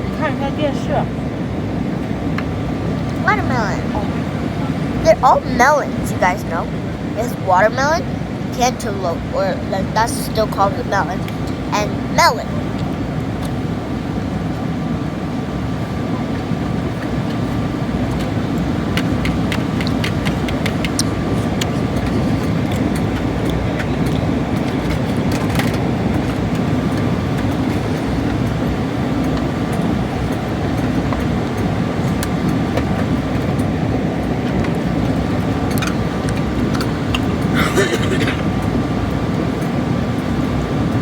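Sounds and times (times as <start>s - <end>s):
jet engine and airflow rumble: 0.0s - 41.0s.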